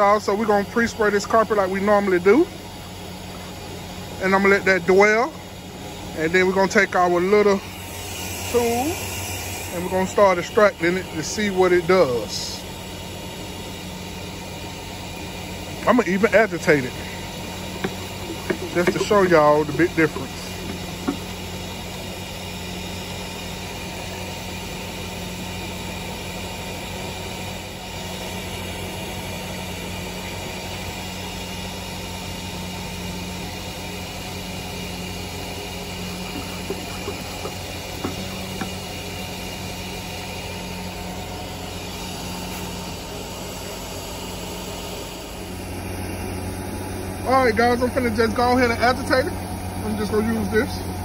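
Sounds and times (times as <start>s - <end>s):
carpet cleaning machine humming: 0.0s - 51.0s.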